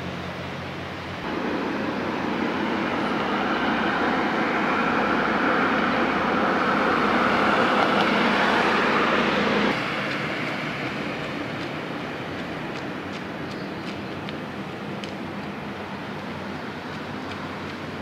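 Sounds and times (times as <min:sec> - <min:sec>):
passing vehicle traffic: 0:00.0 - 0:18.0.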